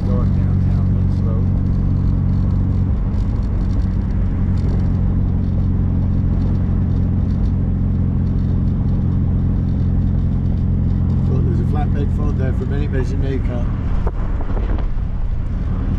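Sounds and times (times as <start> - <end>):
car engine running: 0.0 - 15.9
road and wind noise: 0.0 - 15.9.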